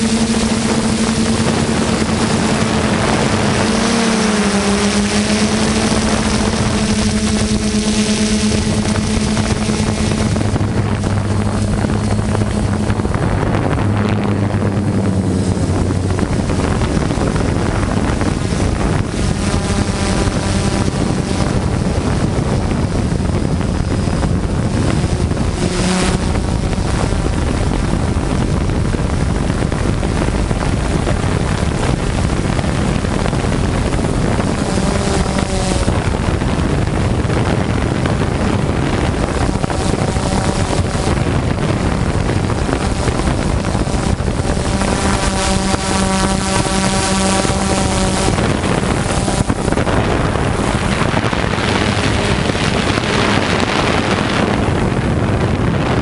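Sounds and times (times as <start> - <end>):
drone motors droning: 0.0 - 56.0
wind on microphone: 0.0 - 56.0.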